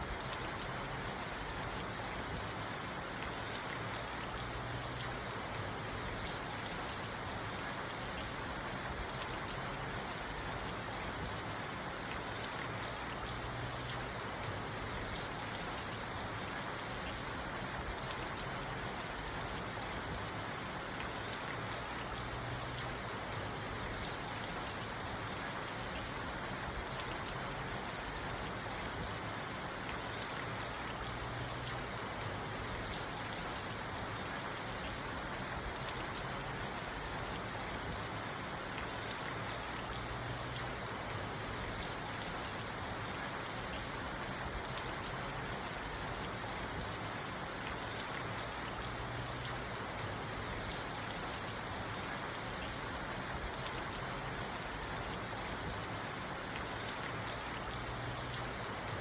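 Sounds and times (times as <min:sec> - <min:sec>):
rain pattering on a car: 0:00.0 - 0:59.0.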